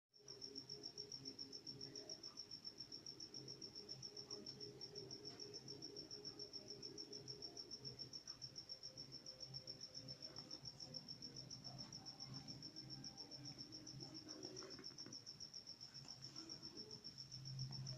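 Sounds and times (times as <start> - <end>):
cricket chirping: 0.2 - 17.9
faint low hum: 0.2 - 17.9.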